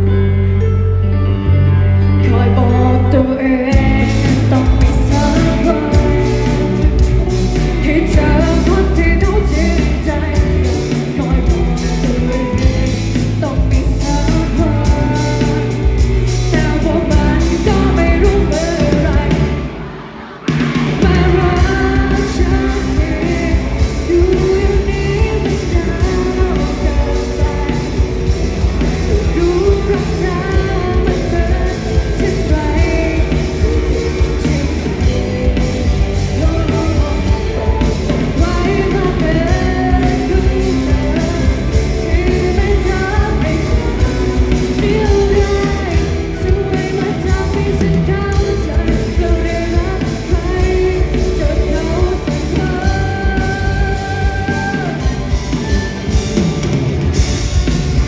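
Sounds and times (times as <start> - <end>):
person singing: 0.0 - 58.0
rock band playing live: 0.0 - 58.0.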